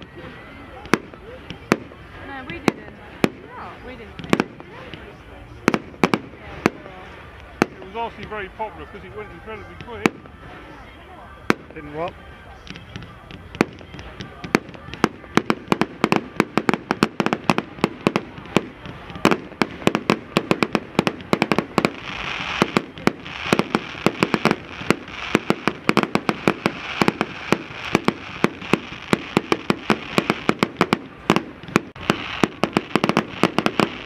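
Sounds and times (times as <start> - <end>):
fireworks bangs: 0.0 - 34.0
steady hiss: 0.0 - 34.0.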